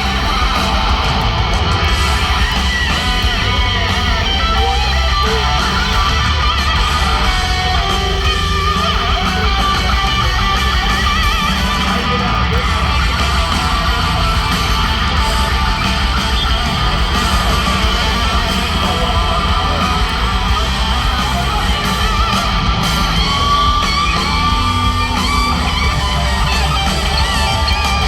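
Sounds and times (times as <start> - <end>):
bass guitar: 0.0 - 28.0
drums: 0.0 - 28.0
electric lead guitar: 0.0 - 28.0
strummed guitar: 0.0 - 28.0.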